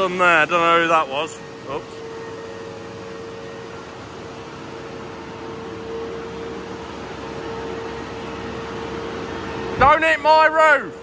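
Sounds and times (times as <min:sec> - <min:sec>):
heavy farm machinery running: 0:00.0 - 0:11.0.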